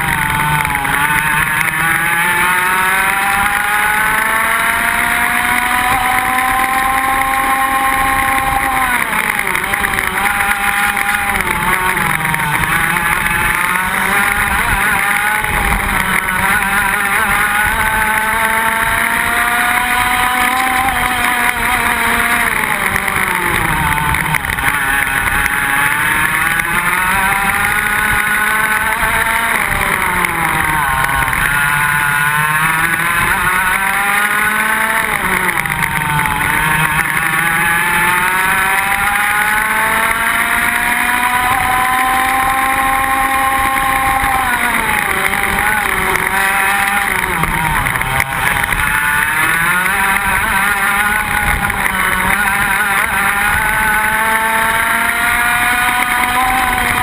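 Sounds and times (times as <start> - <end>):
kart engines revving: 0.0 - 57.0.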